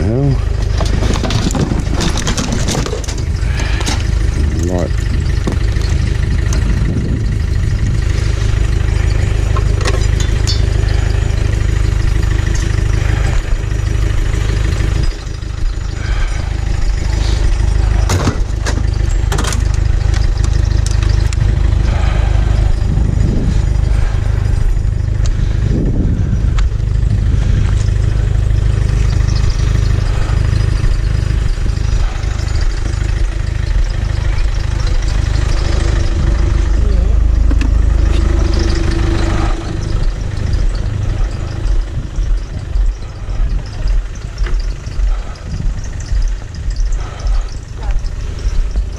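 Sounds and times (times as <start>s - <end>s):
car engine and road rumble: 0.0s - 48.9s
knocks and rattles: 0.3s - 48.9s.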